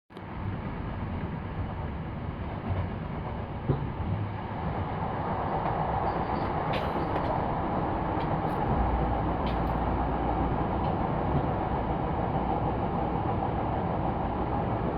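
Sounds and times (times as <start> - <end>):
train rumble from inside car: 0.1 - 14.9.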